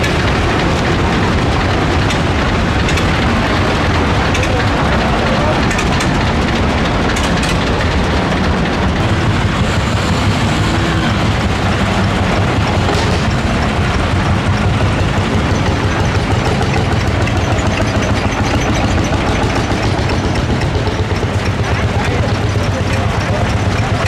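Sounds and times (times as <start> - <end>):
tractor engines driving past: 0.0 - 24.0.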